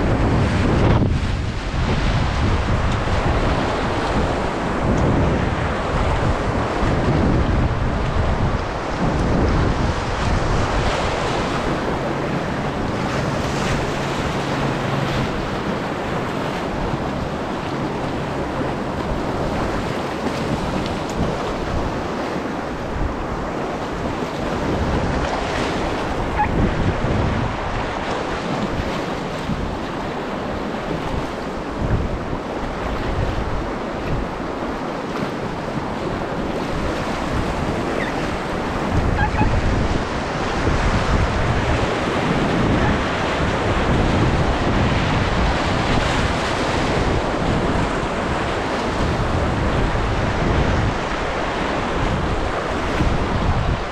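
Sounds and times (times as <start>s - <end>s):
whitewater rapids rushing: 0.0s - 53.9s
wind buffeting microphone: 0.0s - 53.9s.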